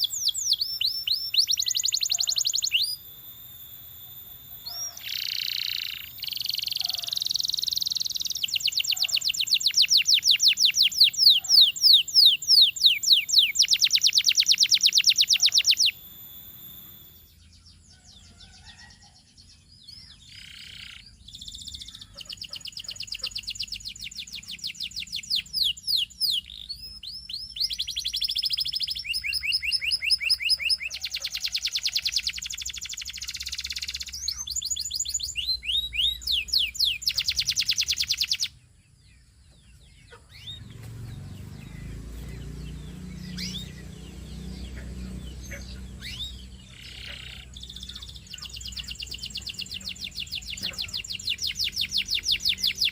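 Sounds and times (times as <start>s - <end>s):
canary trilling: 0.0s - 19.0s, 19.9s - 38.5s, 39.9s - 52.9s
canary chirps: 0.0s - 52.9s.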